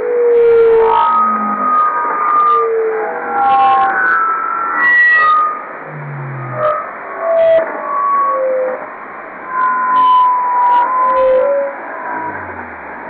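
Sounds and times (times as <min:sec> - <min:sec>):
electronic pure tones: 0:00.0 - 0:13.0.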